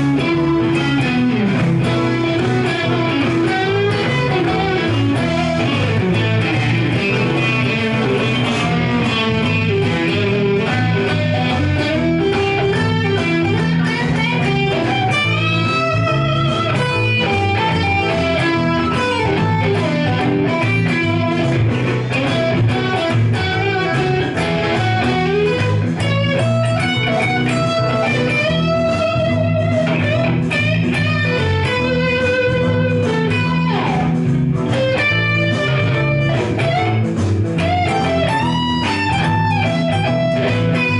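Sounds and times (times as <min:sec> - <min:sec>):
electric guitar blues lead: 0:00.0 - 0:40.9.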